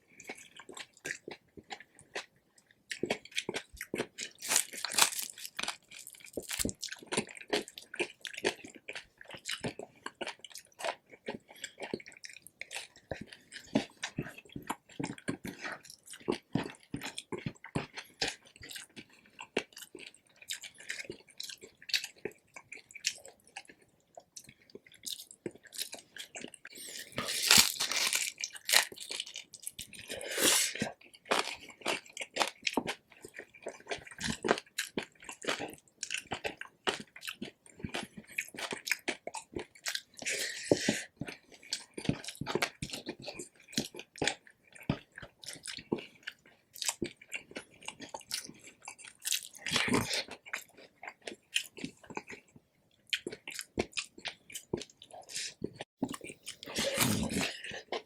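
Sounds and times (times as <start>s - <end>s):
crunchy chewing and biting: 2.9s - 23.8s, 24.4s - 58.0s.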